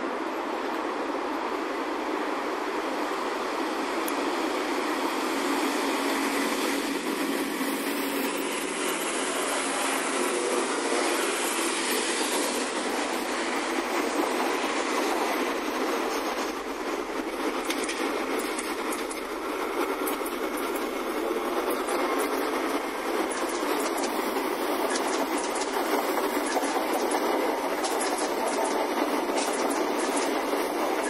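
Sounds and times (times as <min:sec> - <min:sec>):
diesel train passing: 0:00.0 - 0:31.0
train wheels on rails: 0:00.0 - 0:31.0.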